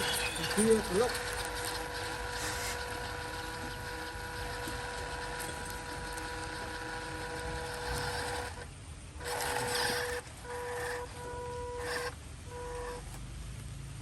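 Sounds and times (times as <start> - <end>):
small electric motor whining: 0.0 - 13.2.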